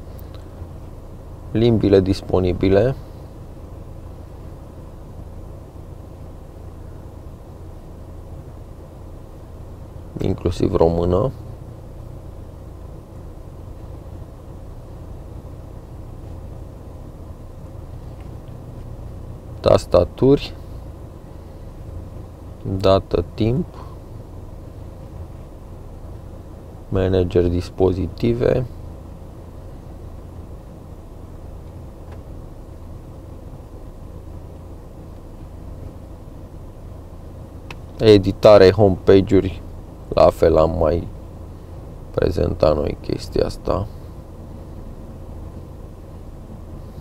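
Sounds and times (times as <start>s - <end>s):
diesel van engine rumble: 0.0s - 47.0s
faint steady hum: 0.0s - 47.0s.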